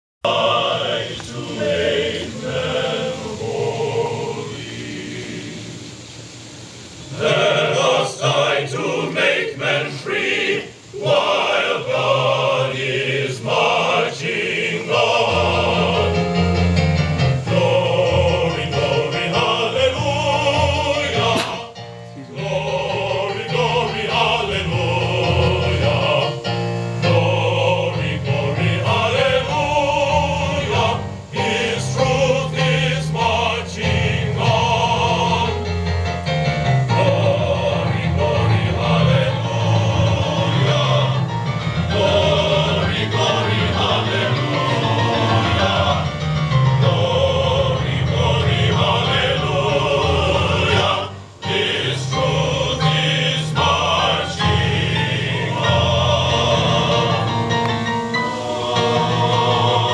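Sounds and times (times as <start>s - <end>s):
men's choir singing: 0.2s - 6.0s, 7.1s - 59.9s.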